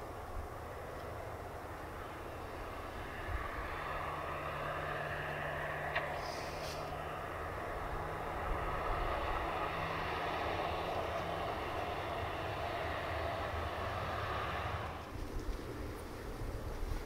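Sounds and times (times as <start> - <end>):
distant vehicle rumble: 0.0 - 17.0.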